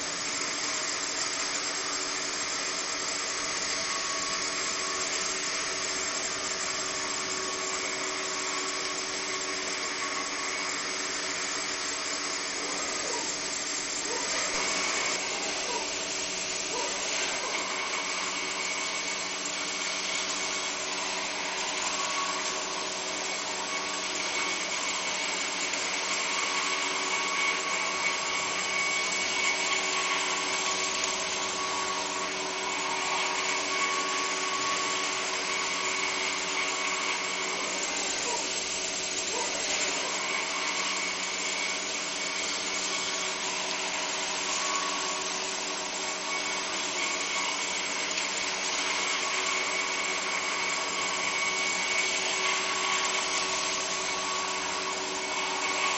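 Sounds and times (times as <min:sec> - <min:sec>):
stone milling machine whine: 0:00.0 - 0:55.9.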